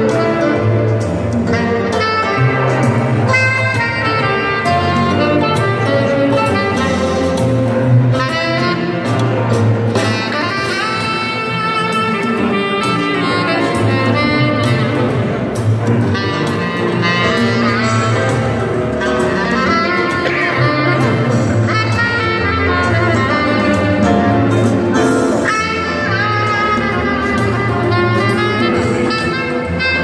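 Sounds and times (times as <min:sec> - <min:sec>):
instrumental jazz music: 0:00.0 - 0:30.0.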